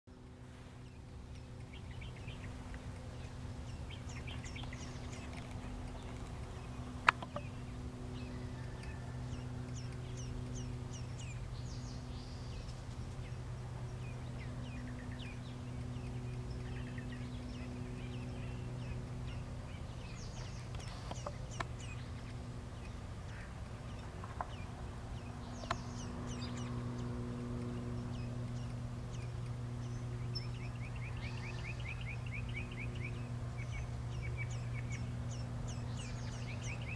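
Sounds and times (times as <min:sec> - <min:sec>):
low mechanical hum: 0:00.1 - 0:36.9
small birds chirping: 0:00.1 - 0:36.9.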